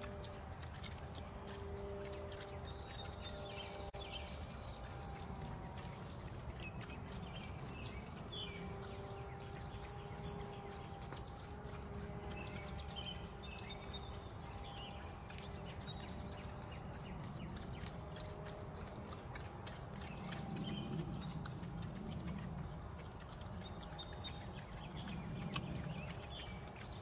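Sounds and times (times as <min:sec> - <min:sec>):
birds chirping: 0:00.0 - 0:27.0
faint steady hum: 0:00.0 - 0:27.0
steady low rumble: 0:00.0 - 0:27.0.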